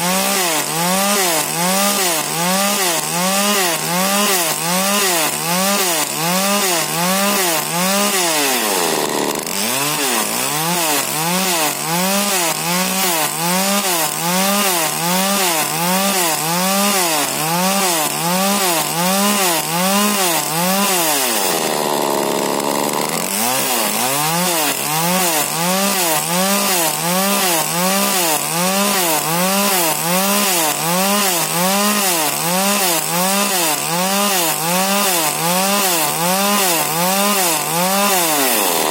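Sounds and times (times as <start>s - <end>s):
chainsaw running at high revs: 0.0s - 38.9s.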